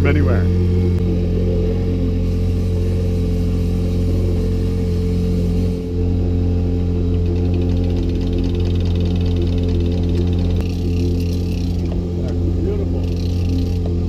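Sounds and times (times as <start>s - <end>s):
outboard motor humming: 0.0s - 14.0s.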